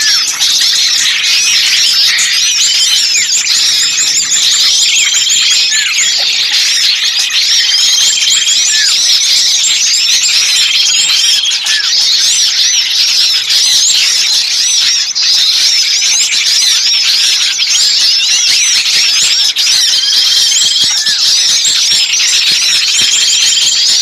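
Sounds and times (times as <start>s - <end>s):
bird trill: 0.0s - 24.0s
songbirds chirping: 0.0s - 24.0s.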